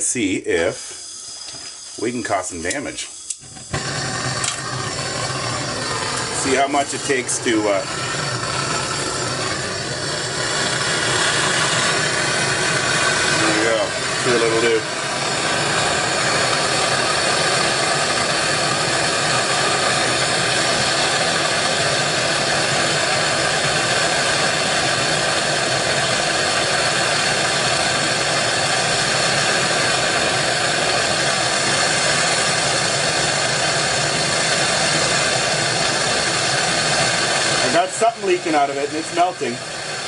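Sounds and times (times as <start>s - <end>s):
torch flame hissing: 0.0s - 40.0s.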